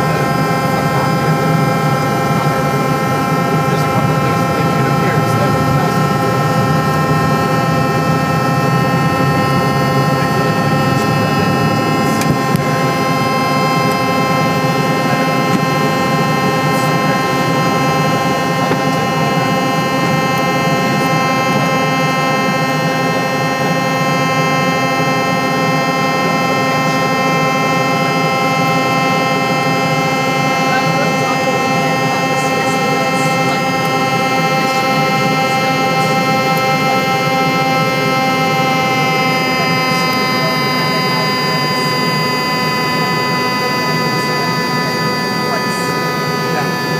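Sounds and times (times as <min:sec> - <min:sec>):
jet engines whining: 0:00.0 - 0:46.9
low runway rumble: 0:00.0 - 0:46.9.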